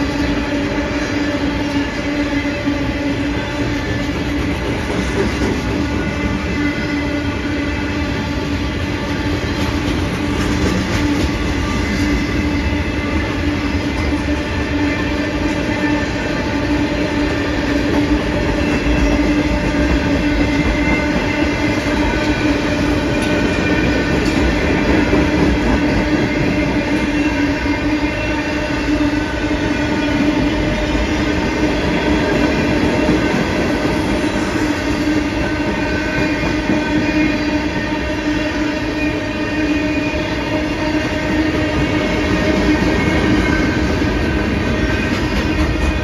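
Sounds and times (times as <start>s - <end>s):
freight train rolling past: 0.0s - 46.0s.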